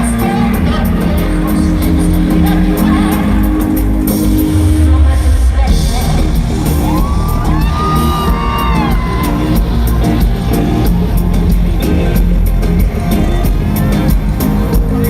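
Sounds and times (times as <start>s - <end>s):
live pop concert music: 0.0s - 15.0s.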